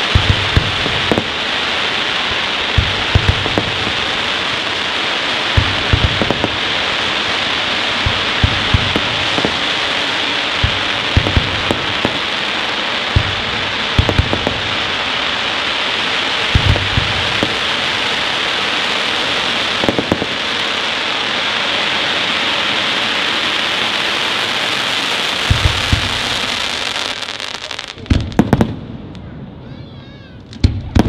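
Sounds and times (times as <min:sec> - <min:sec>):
fireworks crackling: 0:00.0 - 0:31.0.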